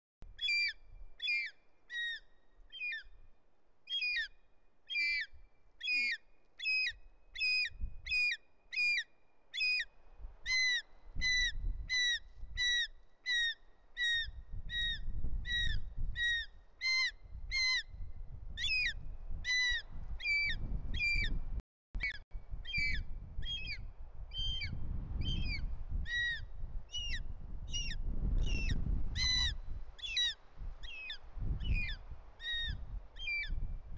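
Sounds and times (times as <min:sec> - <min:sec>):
young eagle screaming calls: 0:00.4 - 0:03.2, 0:03.9 - 0:18.0, 0:18.6 - 0:21.3, 0:22.0 - 0:33.6.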